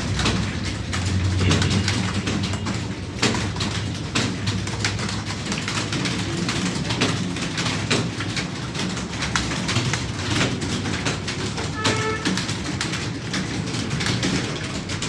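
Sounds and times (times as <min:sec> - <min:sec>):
keyboards typing clatter: 0:00.0 - 0:15.0.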